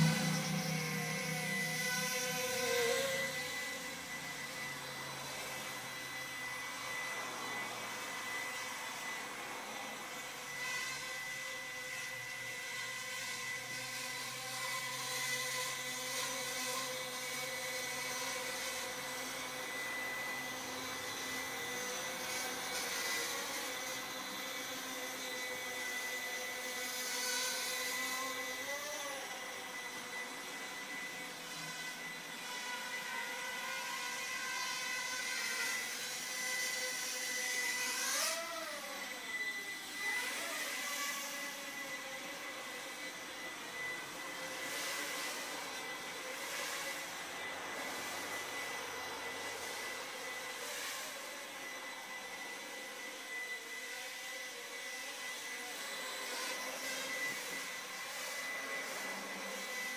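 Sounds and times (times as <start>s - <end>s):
quadcopter motors whirring: 0.0s - 59.9s.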